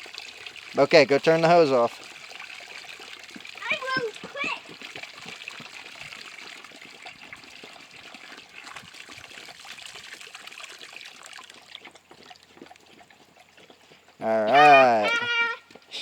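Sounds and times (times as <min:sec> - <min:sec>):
air bubbles crackling in soil: 0:00.0 - 0:15.1
water trickling into soil: 0:00.0 - 0:16.0.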